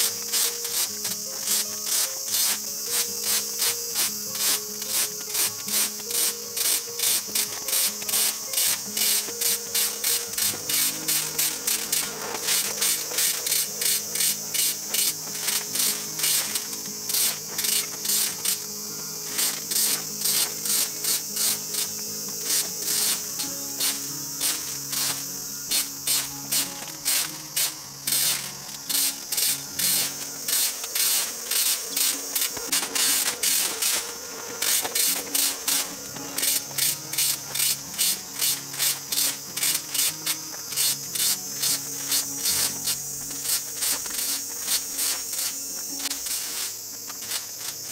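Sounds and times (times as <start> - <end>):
light background music: 0.0 - 47.9
rake scraping on asphalt: 0.0 - 47.9.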